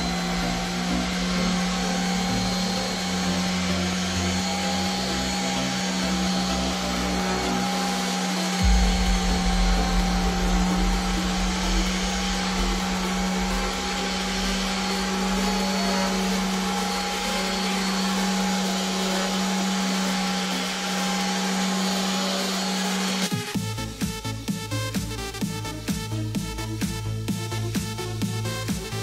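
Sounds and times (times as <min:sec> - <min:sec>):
orbital sander running: 0:00.0 - 0:29.0.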